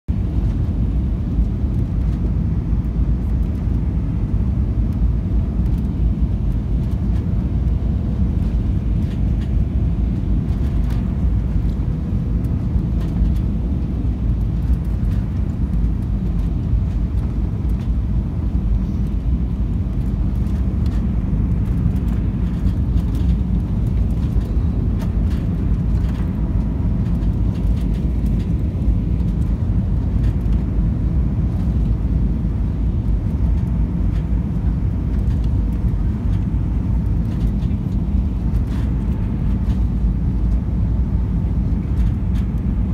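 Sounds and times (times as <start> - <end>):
distant jet engine hum: 0.1 - 42.9
gusty wind buffeting microphone: 0.1 - 42.9.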